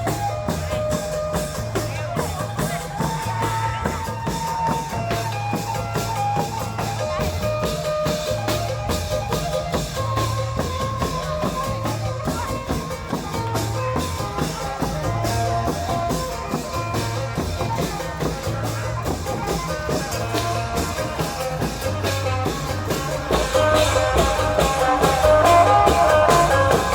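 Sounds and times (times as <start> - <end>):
drum band playing: 0.0 - 26.9
held melody notes: 0.0 - 26.9
pulsing bass line: 0.0 - 26.9.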